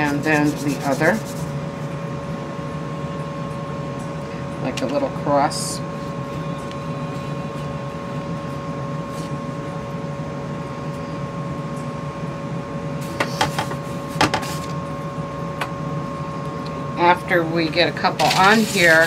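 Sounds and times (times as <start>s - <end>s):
faint steady whines: 0.0s - 19.0s.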